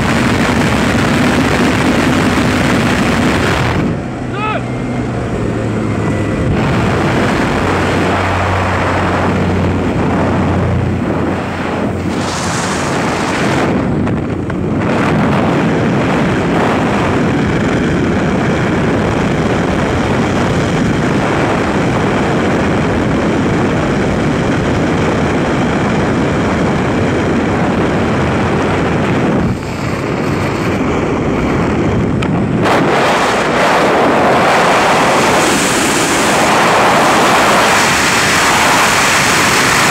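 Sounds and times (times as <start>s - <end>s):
propeller engine drone: 0.0s - 39.9s
rush of air in freefall: 0.0s - 39.9s
wind rush on microphone: 0.0s - 39.9s.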